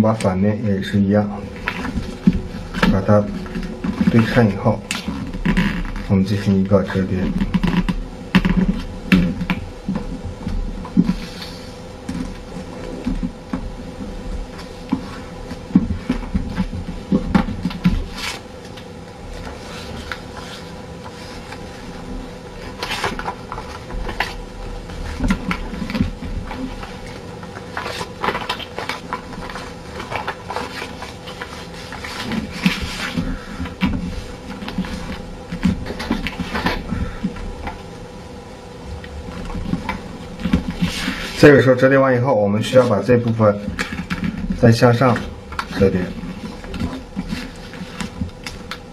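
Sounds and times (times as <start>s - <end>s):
paper rustling and creasing: 0.0s - 38.1s, 38.8s - 48.9s
faint steady hum: 0.0s - 48.9s.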